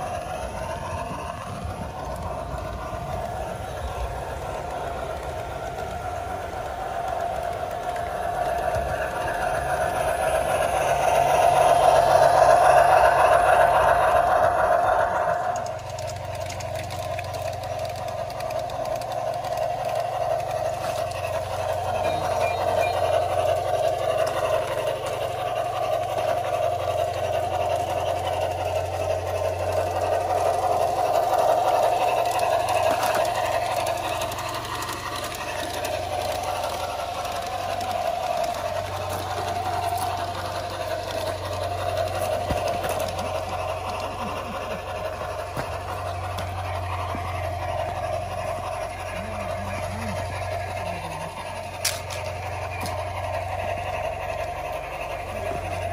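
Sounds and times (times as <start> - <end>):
model train motor whine: 0.0 - 55.9
wheels clicking over rail joints: 0.0 - 55.9.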